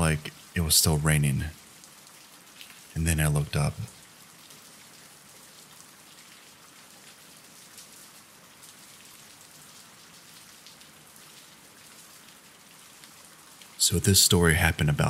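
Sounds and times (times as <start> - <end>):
soft rain patter: 0.0 - 15.0.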